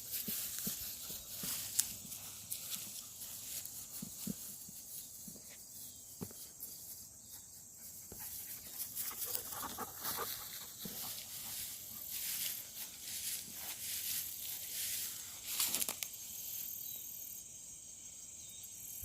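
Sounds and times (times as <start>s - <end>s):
footsteps crunching through dry leaves: 0.0s - 16.2s
high insect drone: 0.0s - 19.0s.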